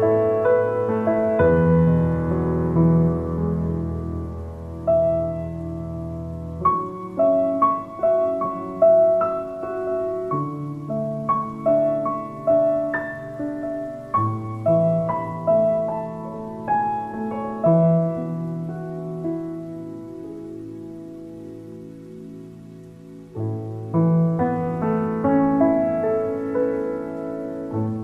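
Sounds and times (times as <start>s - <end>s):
gentle solo piano music: 0.0s - 28.0s.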